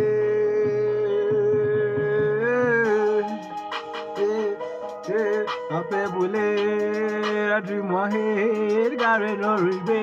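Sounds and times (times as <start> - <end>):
backing music with percussive hits: 0.0 - 10.0
person singing: 0.0 - 10.0.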